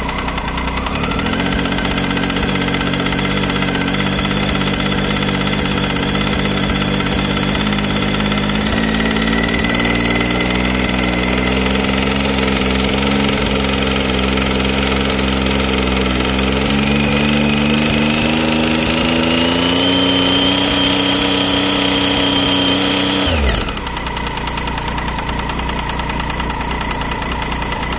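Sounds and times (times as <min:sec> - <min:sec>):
engine ticking: 0:00.0 - 0:27.9
motorcycle engine revving: 0:00.0 - 0:27.9.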